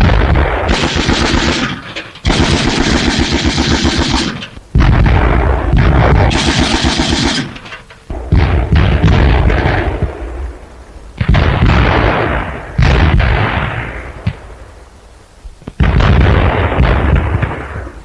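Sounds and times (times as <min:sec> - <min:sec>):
gunfire blasts with rumble: 0:00.0 - 0:14.8, 0:15.8 - 0:18.0.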